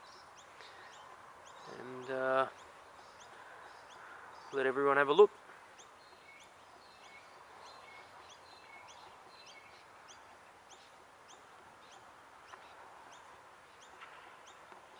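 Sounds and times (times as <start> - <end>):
bird chirping: 0.0 - 14.9
steady outdoor hiss: 0.0 - 14.9.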